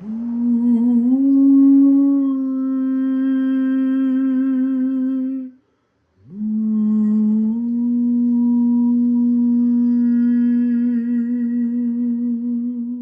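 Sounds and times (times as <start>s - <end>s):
man singing long held notes: 0.0s - 5.6s, 6.3s - 13.0s.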